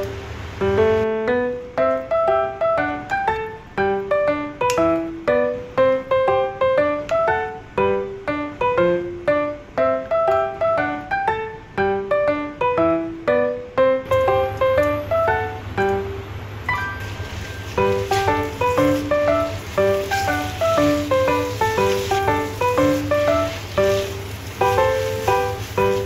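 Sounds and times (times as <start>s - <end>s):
light piano tune: 0.0s - 26.0s.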